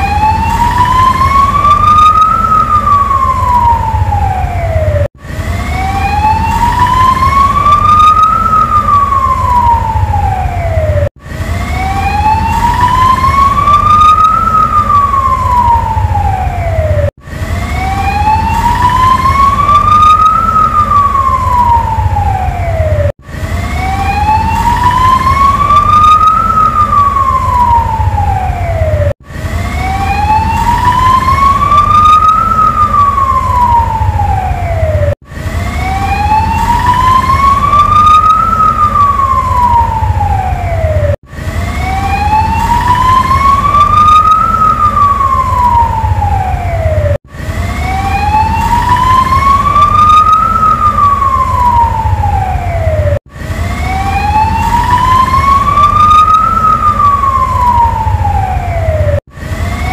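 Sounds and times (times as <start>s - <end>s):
ambulance siren wailing: 0.0s - 59.9s.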